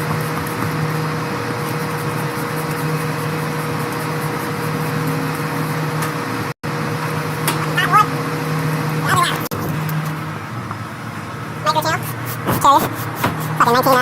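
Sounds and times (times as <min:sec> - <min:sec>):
air conditioning unit humming: 0:00.0 - 0:14.0.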